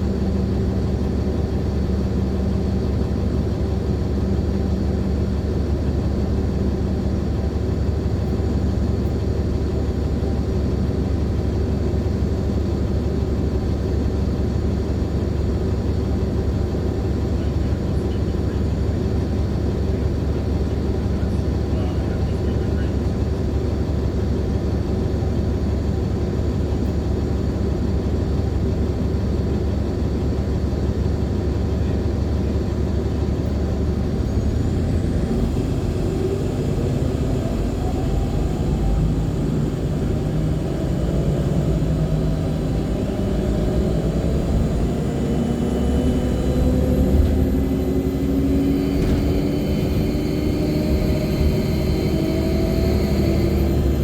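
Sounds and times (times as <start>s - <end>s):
bus drivetrain rumbling and whining: 0.0s - 54.0s.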